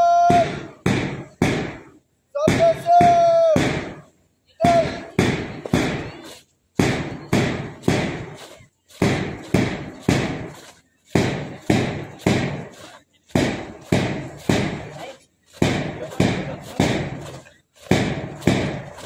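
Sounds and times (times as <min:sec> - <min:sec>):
drum marching rhythm: 0:00.0 - 0:19.0.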